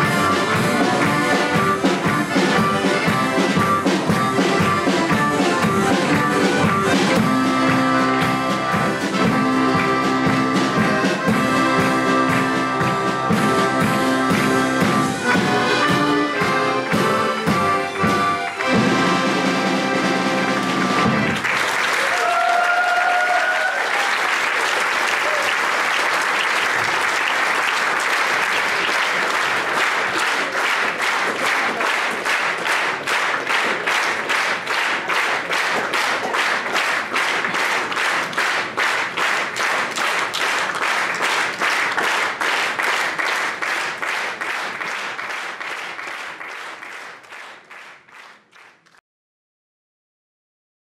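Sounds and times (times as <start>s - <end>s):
audience applauding: 0.0s - 16.0s, 17.9s - 49.0s
rhythmic clapping in unison: 0.0s - 49.0s.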